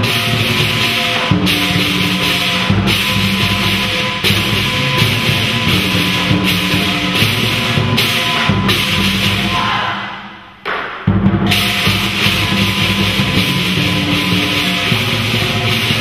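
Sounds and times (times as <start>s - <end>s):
clashing hand cymbals: 0.0s - 16.0s
drum beating: 0.0s - 16.0s.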